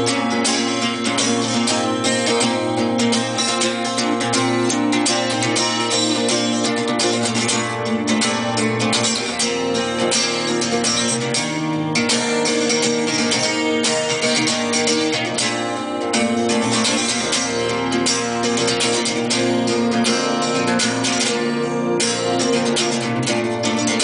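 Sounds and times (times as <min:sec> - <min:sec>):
acoustic guitar plucked and strummed: 0:00.0 - 0:24.0.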